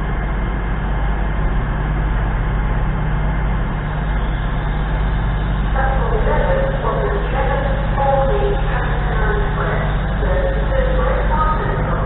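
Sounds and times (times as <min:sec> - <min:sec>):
train diesel engines idling: 0:00.0 - 0:12.0.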